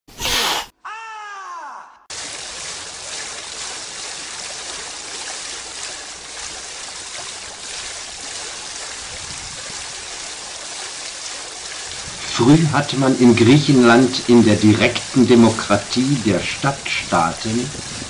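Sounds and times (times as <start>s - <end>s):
water running: 2.1s - 18.0s.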